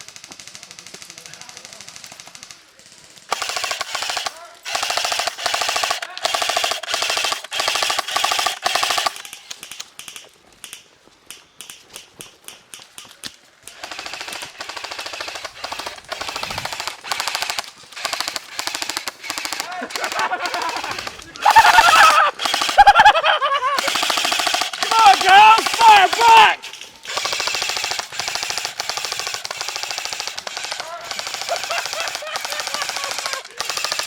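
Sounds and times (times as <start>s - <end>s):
airsoft guns firing bursts: 0.0s - 10.8s, 13.6s - 34.0s
faint scattered shots: 0.0s - 10.8s, 12.7s - 34.0s.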